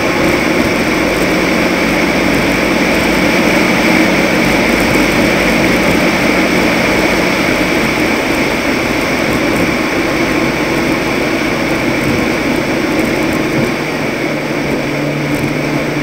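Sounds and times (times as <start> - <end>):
truck engine: 0.0 - 16.0
tyre noise: 0.0 - 16.0
wind noise: 0.0 - 16.0.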